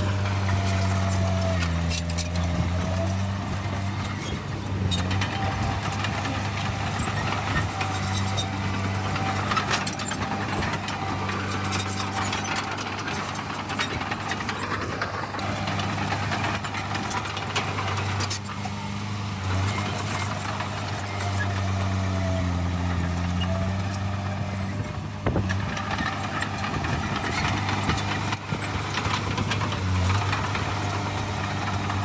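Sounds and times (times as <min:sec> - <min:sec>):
sharp clicks and clatter: 0:00.0 - 0:18.6, 0:22.8 - 0:32.0
diesel machinery engine running: 0:00.0 - 0:32.0.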